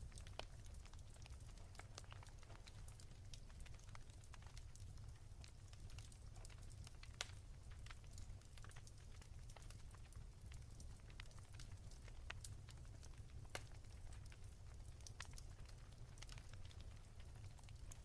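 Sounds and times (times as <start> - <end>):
low steady fire rumble: 0.0 - 18.0
wood fire crackling: 0.0 - 18.0.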